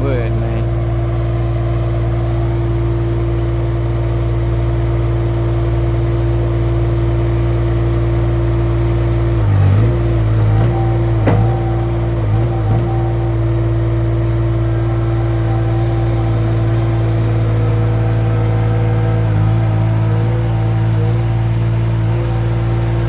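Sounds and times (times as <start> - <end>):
skid steer engine running: 0.0 - 23.0.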